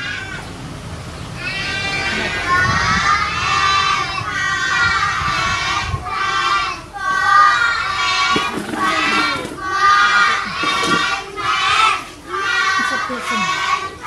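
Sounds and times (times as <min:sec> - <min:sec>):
children singing and calling out: 0:00.0 - 0:00.6, 0:01.2 - 0:14.0.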